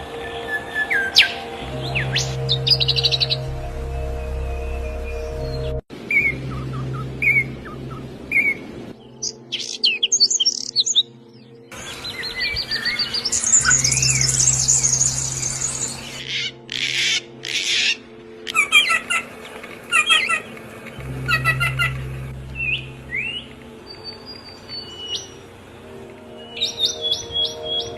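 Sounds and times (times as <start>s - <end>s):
bird trilling song: 0.0s - 19.3s, 19.9s - 25.7s, 26.3s - 27.9s
songbirds chirping: 0.0s - 27.9s.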